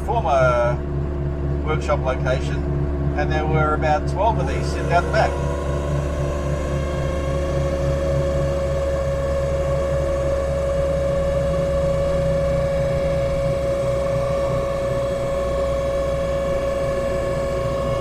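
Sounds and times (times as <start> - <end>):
small car engine droning: 0.0 - 18.0
steady engine whine: 0.0 - 18.0.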